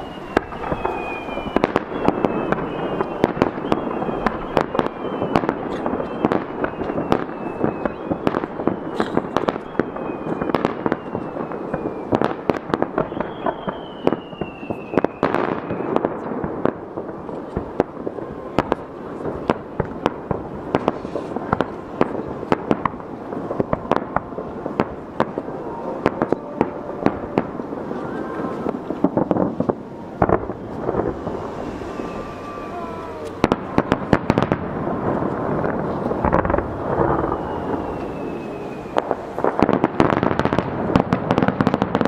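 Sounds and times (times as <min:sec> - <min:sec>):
firework bangs: 0:00.0 - 0:42.0
firework crackling: 0:00.0 - 0:42.0
firework whistle gliding down: 0:00.0 - 0:42.0.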